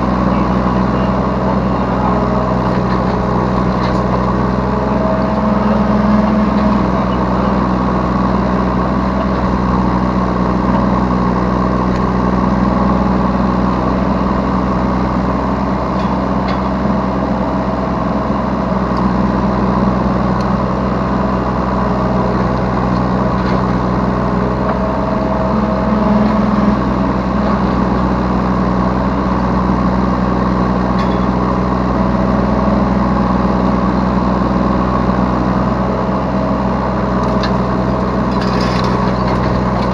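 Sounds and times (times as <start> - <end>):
excavator diesel engine running: 0.0 - 39.9
hydraulics working: 0.0 - 39.9.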